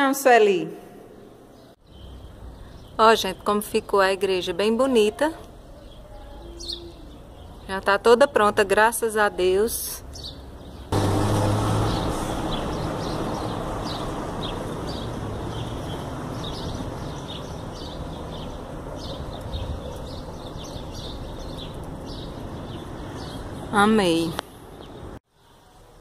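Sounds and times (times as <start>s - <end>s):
small birds chirping: 1.5s - 11.0s, 11.8s - 25.8s.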